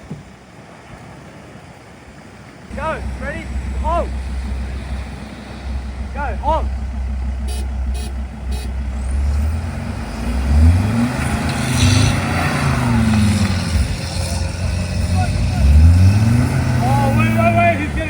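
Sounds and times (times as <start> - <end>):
engine straining and revving: 2.7 - 18.0.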